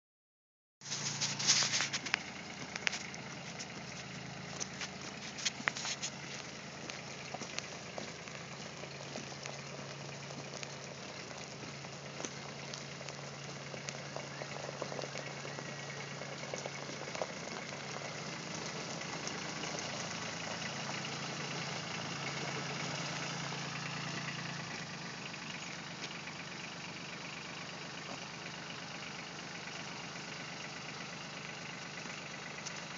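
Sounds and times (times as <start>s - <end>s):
tractor diesel engine running: 0.8s - 32.9s.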